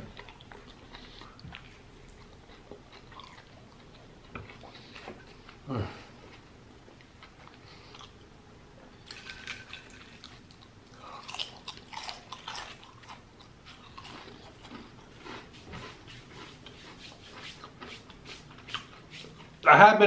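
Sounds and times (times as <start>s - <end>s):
man chewing food: 0.0s - 19.7s.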